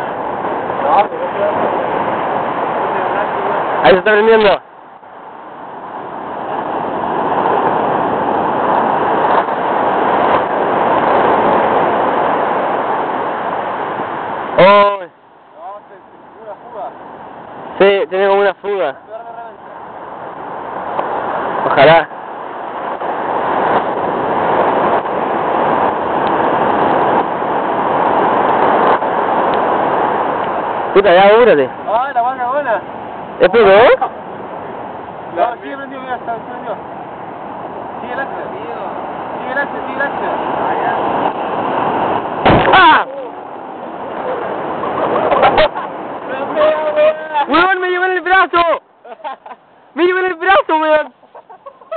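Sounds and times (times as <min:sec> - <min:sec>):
bonfire rushing hiss: 0:00.0 - 0:51.9.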